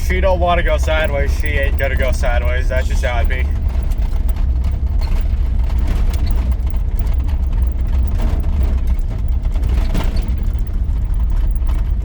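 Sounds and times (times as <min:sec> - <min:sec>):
pickup engine rumble: 0:00.0 - 0:12.0
road noise: 0:00.0 - 0:12.0.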